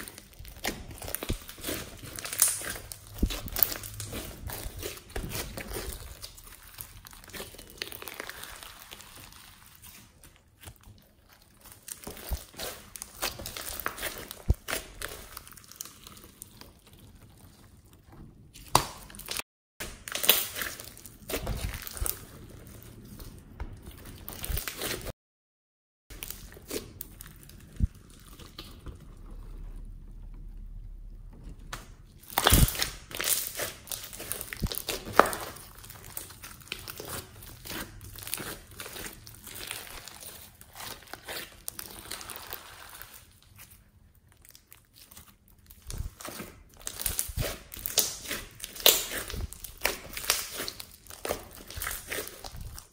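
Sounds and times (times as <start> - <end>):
slime crackling and squishing: 0.0 - 25.1, 26.1 - 52.9.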